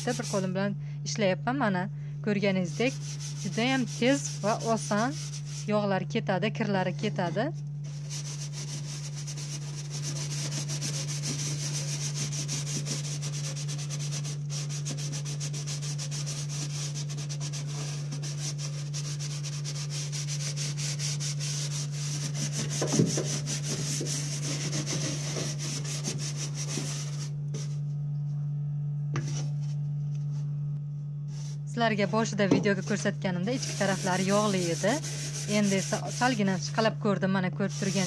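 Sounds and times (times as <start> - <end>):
sponge scrubbing: 0.0 - 0.6, 2.6 - 5.8, 6.9 - 27.8, 31.3 - 36.9, 37.6 - 38.0.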